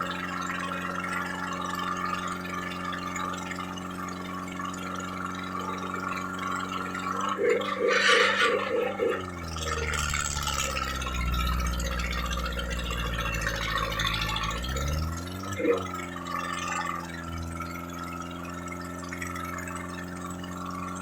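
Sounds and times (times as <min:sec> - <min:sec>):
tractor diesel engine labouring: 0:00.0 - 0:21.0.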